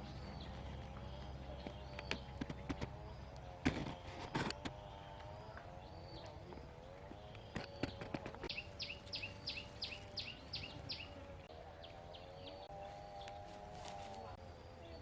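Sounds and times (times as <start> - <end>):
steady wavering hum: 0.0 - 15.0.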